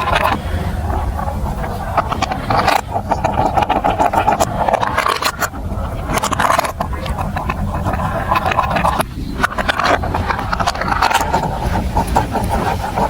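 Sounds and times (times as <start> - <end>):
marbles rolling on plastic track: 0.0 - 13.0.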